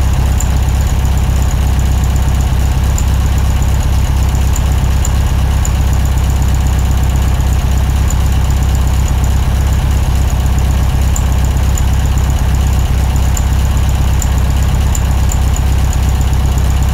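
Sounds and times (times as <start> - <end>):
car engine running steadily: 0.0 - 16.9.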